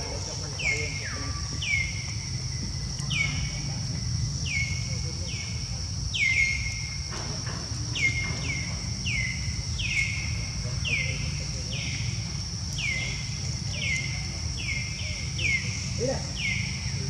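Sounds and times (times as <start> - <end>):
bird chirping: 0.0 - 17.0
high insect drone: 0.0 - 17.0
low outdoor rumble: 0.0 - 17.0.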